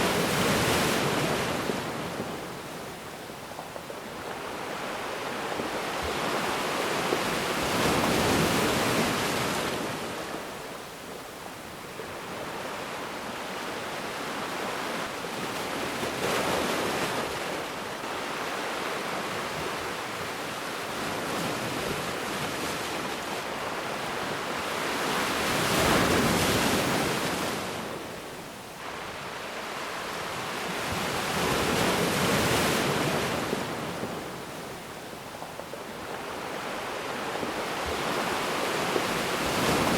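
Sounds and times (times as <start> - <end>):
waves breaking and washing back: 0.0 - 39.9.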